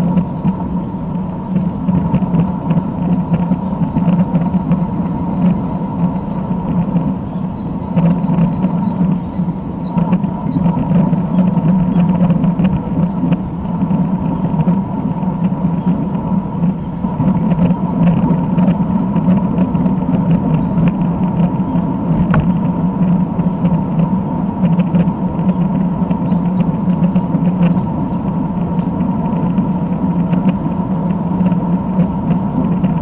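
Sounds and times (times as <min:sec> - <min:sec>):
road and wind noise rumble: 0:00.0 - 0:33.0.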